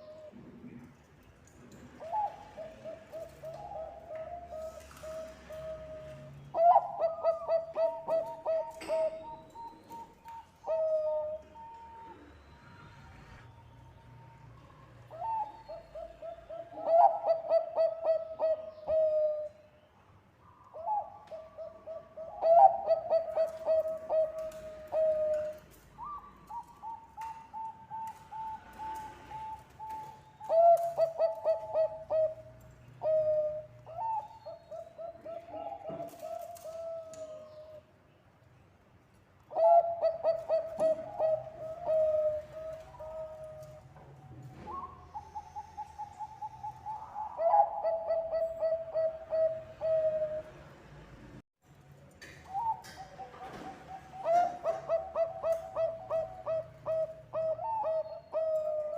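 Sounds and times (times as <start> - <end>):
dove cooing: 2.0 - 13.4, 15.0 - 19.6, 20.7 - 37.8, 39.5 - 50.6, 52.5 - 58.9.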